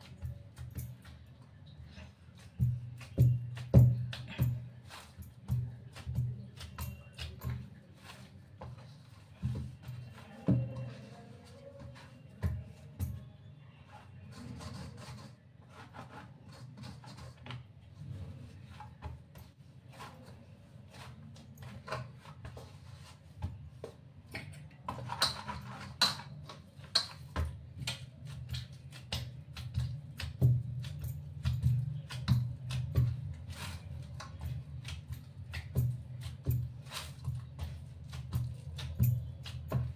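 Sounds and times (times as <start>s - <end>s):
hands kneading dough in metal bowl: 0.0s - 39.9s.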